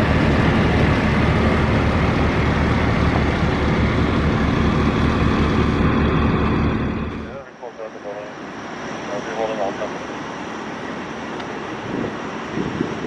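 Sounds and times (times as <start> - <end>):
heavy vehicle engine rumble: 0.0 - 13.0.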